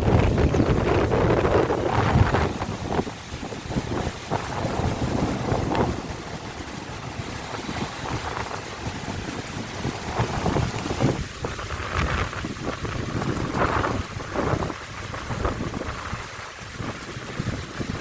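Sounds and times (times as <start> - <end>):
wind gusting against microphone: 0.0 - 18.0.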